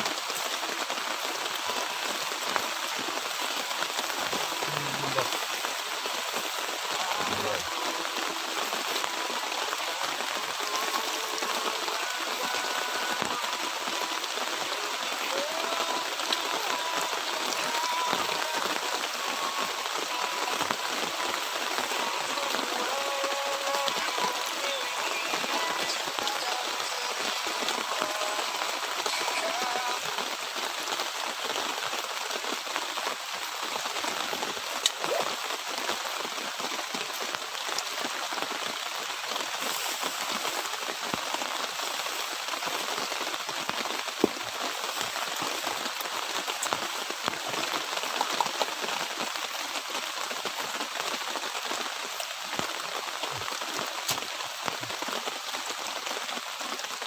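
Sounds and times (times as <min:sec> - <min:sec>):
light drizzle patter: 0:00.0 - 0:57.0.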